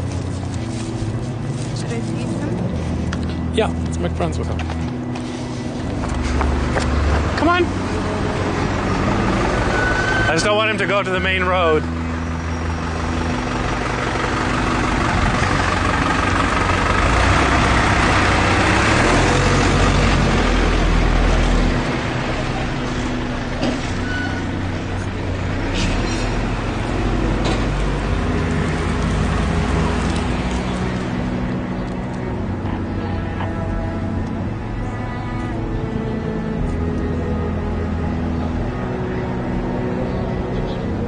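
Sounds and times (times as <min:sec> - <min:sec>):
heavy vehicle engine running: 0:00.0 - 0:41.0
road noise: 0:00.0 - 0:41.0.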